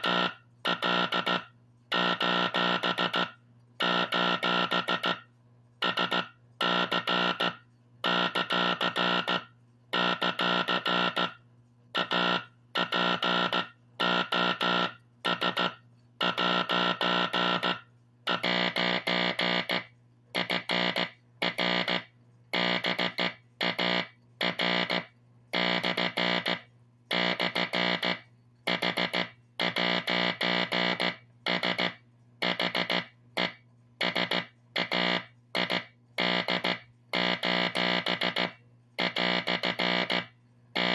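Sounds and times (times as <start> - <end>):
buzzy morse code tone: 0.0 - 40.9.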